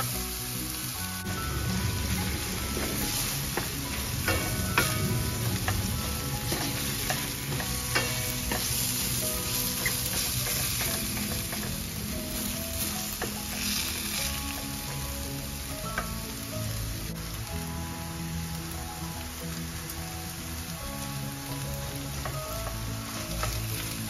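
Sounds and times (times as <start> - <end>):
food sizzling in frying pan: 0.0 - 24.0.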